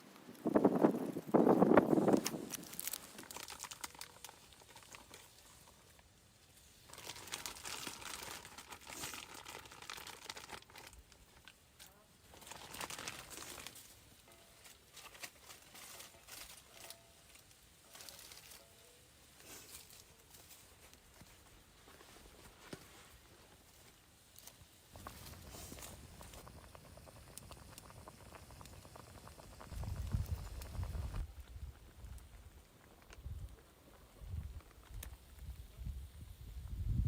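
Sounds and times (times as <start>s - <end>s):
crinkling and rustling: 0.0s - 35.7s.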